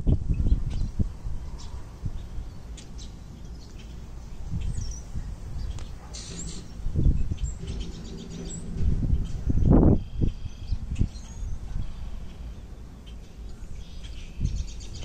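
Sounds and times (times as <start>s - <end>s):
wind buffeting microphone: 0.0s - 15.0s
high bird chirps: 1.6s - 15.0s.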